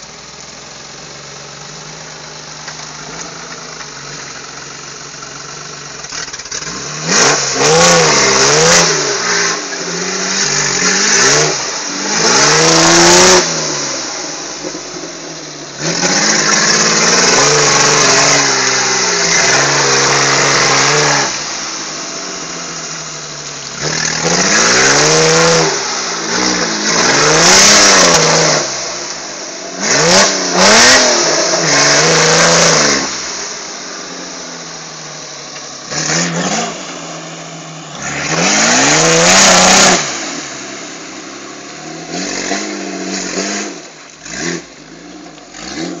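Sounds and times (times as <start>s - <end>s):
off-road vehicle engine revving: 0.0s - 46.0s.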